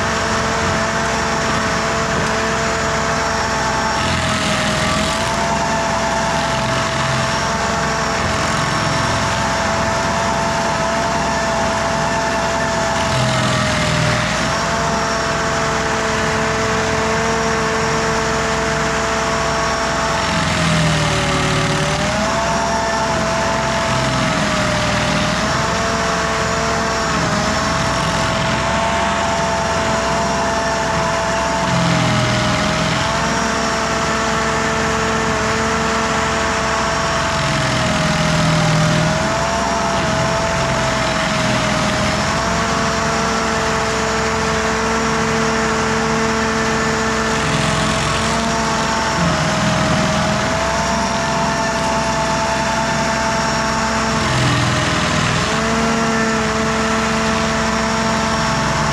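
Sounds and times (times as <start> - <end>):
cutter wheel grinding stump: 0.0 - 58.9
stump grinder engine running: 0.0 - 58.9.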